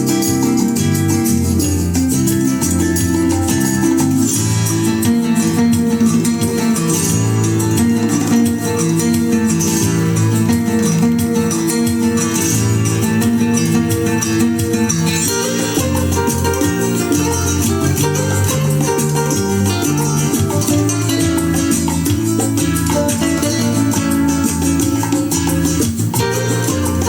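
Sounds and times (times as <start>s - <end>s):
plucked guitar music over loudspeakers: 0.0s - 27.0s.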